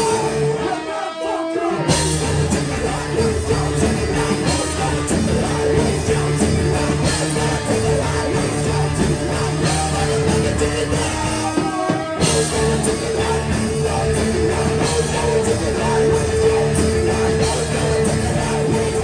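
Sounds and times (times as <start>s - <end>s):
bass guitar: 0.0s - 19.0s
distorted electric guitars: 0.0s - 19.0s
drums: 0.0s - 19.0s
singing vocals: 0.0s - 19.0s.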